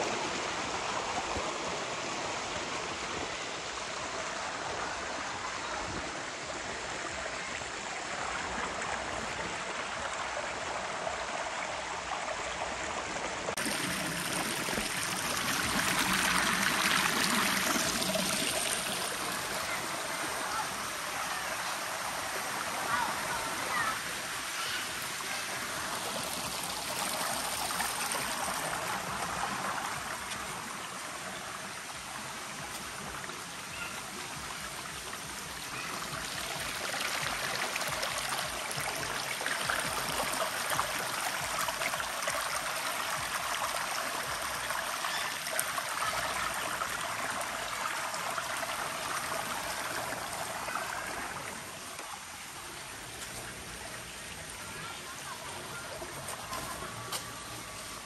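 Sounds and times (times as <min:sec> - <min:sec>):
waterfall and stream flowing: 0:00.0 - 0:58.0.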